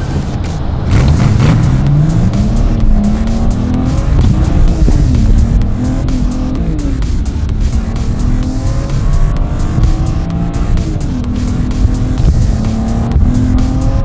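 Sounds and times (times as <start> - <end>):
background music with steady beat: 0.0 - 14.0
car engine accelerating hard: 0.0 - 14.0.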